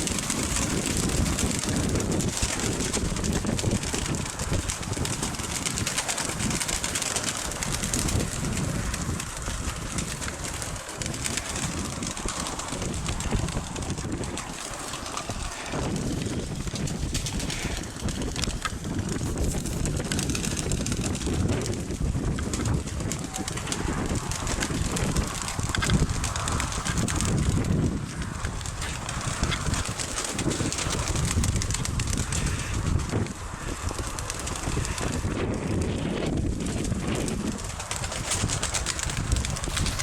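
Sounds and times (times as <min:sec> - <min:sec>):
pigeons cooing: 0:00.0 - 0:18.7, 0:22.5 - 0:35.6, 0:37.2 - 0:40.0
wind buffeting the microphone: 0:00.0 - 0:40.0.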